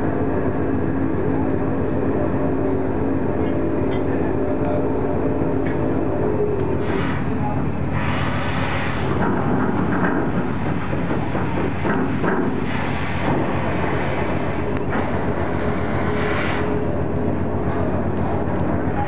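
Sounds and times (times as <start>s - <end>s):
ferry engines droning: 0.0s - 19.0s.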